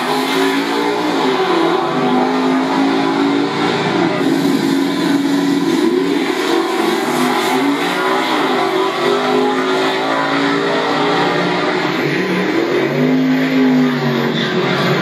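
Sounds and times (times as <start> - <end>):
drag car engine at high revs: 0.0 - 15.0.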